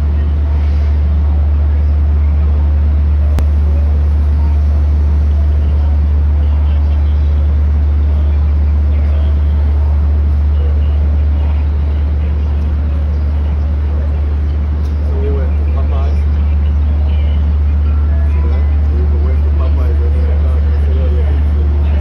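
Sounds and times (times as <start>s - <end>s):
loud low drone: 0.0s - 22.0s.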